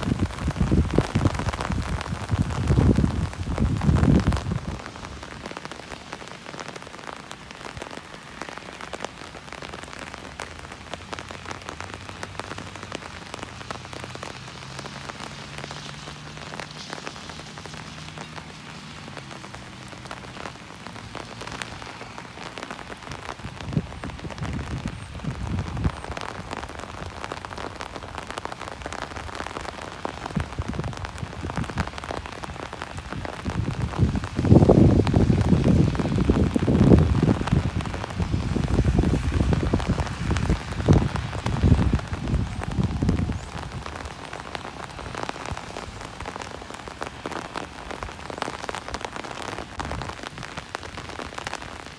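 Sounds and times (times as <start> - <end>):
rain on pavement and grass: 0.0 - 51.9.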